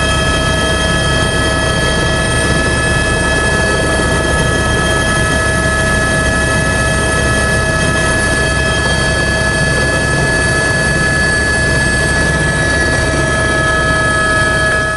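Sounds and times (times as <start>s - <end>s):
helicopter engine whining: 0.0s - 14.9s
low helicopter rumble: 0.0s - 14.9s.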